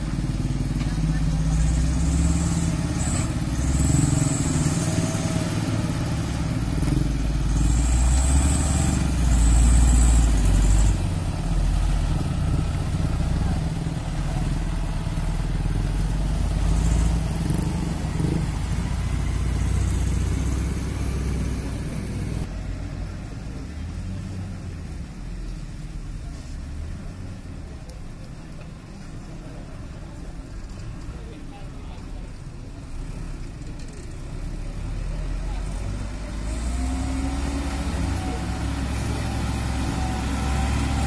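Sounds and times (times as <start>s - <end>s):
diesel engines labouring: 0.0s - 41.0s.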